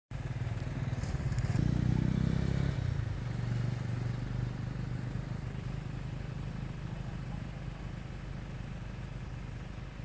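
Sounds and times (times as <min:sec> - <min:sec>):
engine idling: 0:00.1 - 0:10.0.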